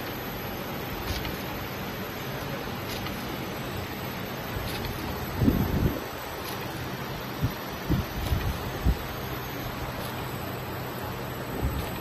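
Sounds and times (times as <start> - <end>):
production line machinery: 0.0 - 12.0.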